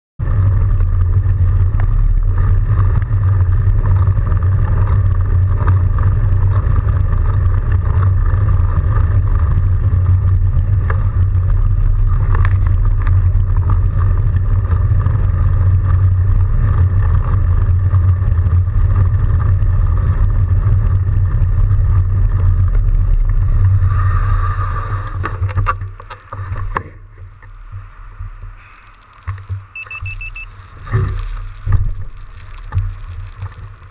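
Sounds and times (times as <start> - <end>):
bike tyres rolling on snow: 0.2 - 33.9.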